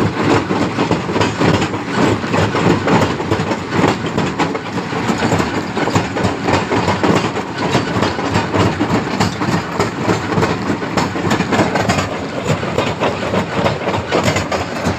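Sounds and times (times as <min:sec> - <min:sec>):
stone crusher running: 0:00.0 - 0:14.9.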